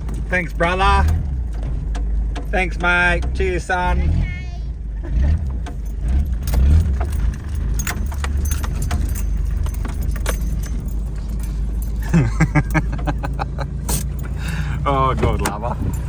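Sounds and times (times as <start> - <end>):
light rattling and clicking: 0.0 - 3.7, 5.1 - 16.0
vehicle engine and road rumble: 0.0 - 16.0.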